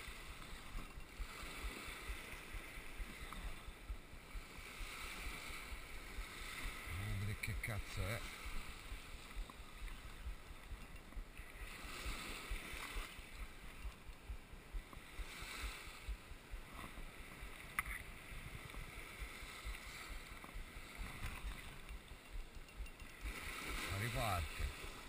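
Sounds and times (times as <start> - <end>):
small waves washing on sand: 0.0 - 25.0
wind rumbling on microphone: 0.0 - 25.0.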